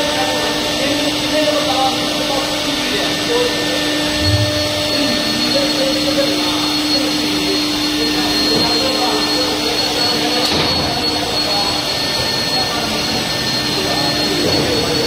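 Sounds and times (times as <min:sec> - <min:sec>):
milling machine humming: 0:00.0 - 0:15.0
thin high whine: 0:00.0 - 0:15.0.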